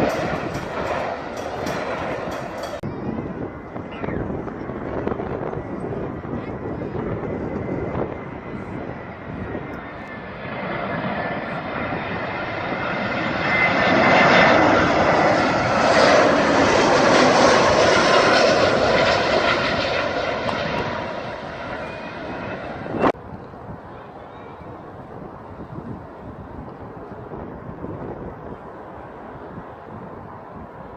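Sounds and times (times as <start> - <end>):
airliner engines passing: 0.0 - 30.9.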